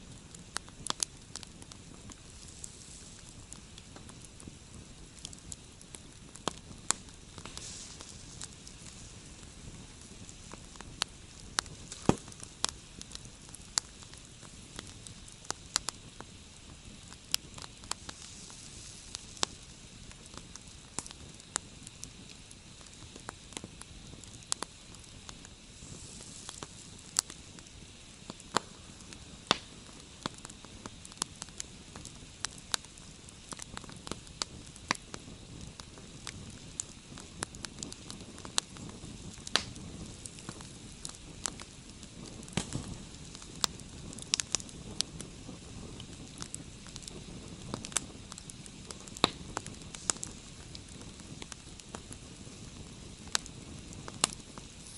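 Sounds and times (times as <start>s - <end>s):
campfire hissing: 0.0s - 54.9s.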